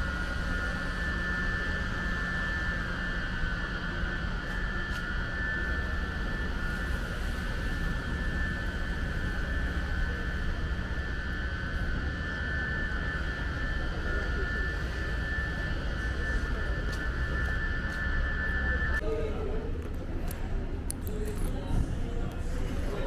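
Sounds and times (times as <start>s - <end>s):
mechanical drone with high whine: 0.0s - 23.0s.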